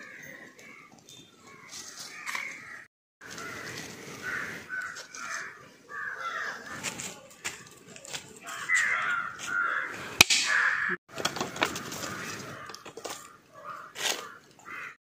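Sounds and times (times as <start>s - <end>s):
crows cawing: 1.5s - 7.6s, 8.4s - 15.0s.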